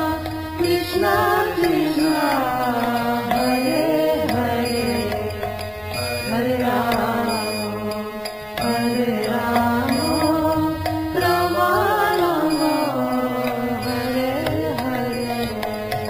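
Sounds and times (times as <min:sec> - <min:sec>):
person singing a sliding melody: 0:00.0 - 0:05.4, 0:06.2 - 0:16.0
steady drone: 0:00.0 - 0:16.0.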